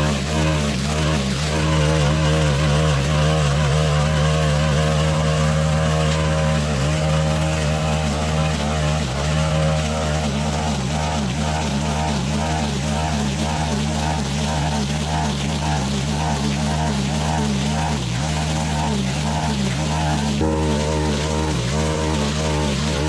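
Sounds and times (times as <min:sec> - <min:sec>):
brushcutter engine cutting grass: 0:00.0 - 0:23.0.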